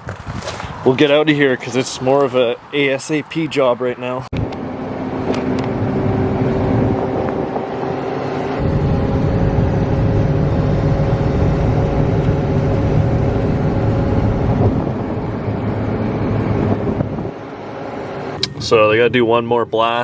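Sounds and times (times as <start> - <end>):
wind buffeting microphone: 0.0 - 3.6, 4.3 - 19.2
truck engine and road rumble: 0.0 - 20.0.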